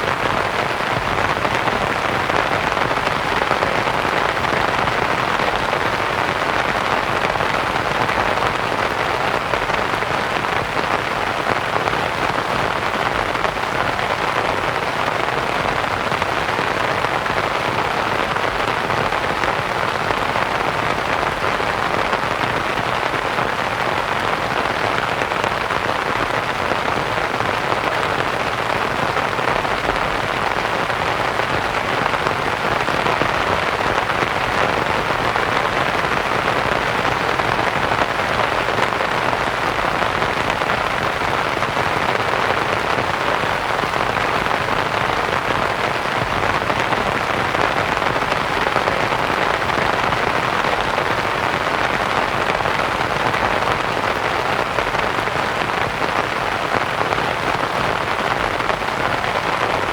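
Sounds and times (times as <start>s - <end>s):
rain pattering on a canvas tent: 0.0s - 59.9s.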